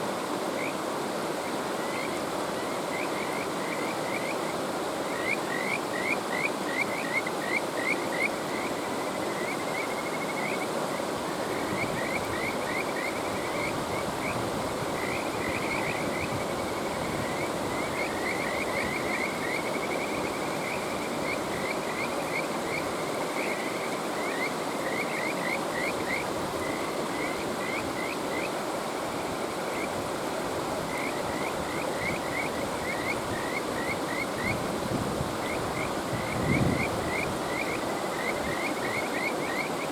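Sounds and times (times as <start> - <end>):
mountain stream rushing: 0.0 - 39.9
frogs chirping: 0.5 - 39.9.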